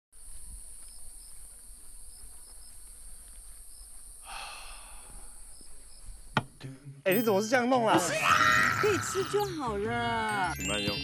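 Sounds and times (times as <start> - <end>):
high-pitched insect chorus: 0.2 - 6.4, 7.1 - 11.0.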